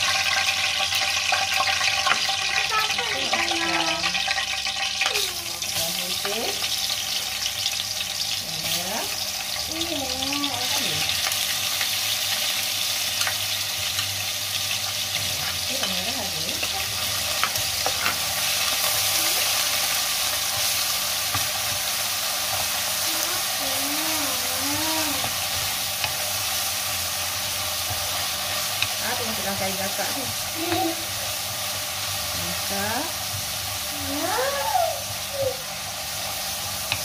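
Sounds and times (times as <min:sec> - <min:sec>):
aromatics sizzling in hot oil: 0:00.0 - 0:37.0.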